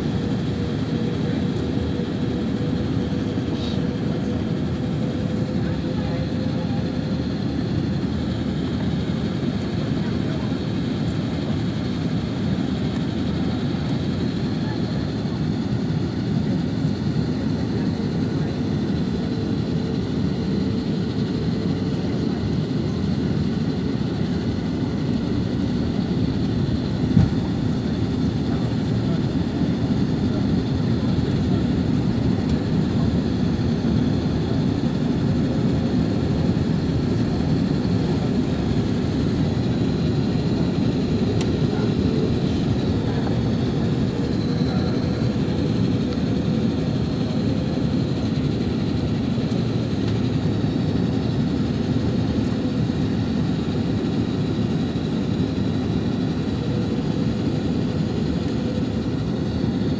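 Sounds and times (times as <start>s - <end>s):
airflow and jet engine rush: 0.0s - 59.9s.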